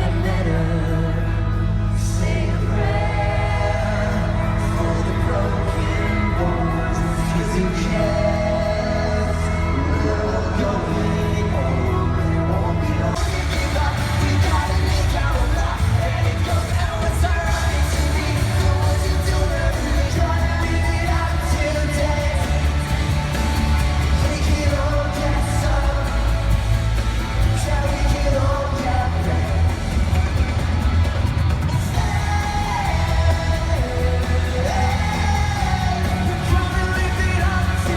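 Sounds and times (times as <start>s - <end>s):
live pop-rock band with singing: 0.0s - 37.9s.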